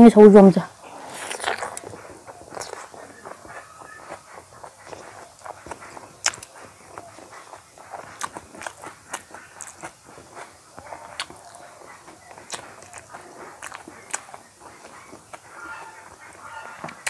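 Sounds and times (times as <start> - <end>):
chewing with wet smacks: 0.8 - 17.0
fingers mixing food on steel plate: 0.8 - 17.0.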